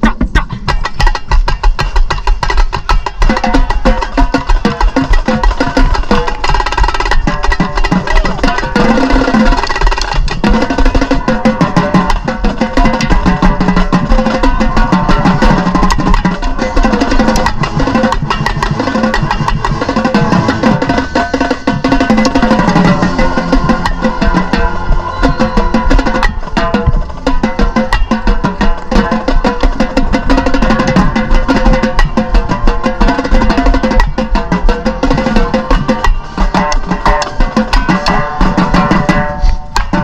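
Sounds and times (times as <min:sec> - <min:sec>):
marching band playing: 0:00.0 - 0:40.0
tenor drums played fast: 0:00.0 - 0:40.0.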